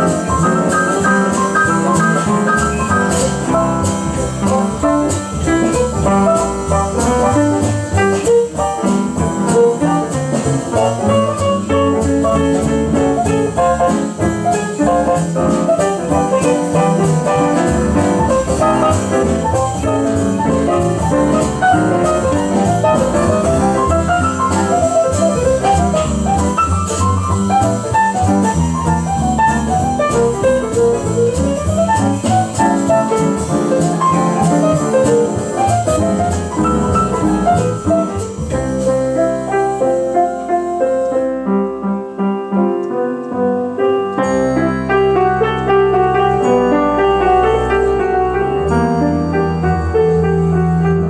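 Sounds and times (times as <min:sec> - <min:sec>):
upright piano playing: 0:00.0 - 0:51.0.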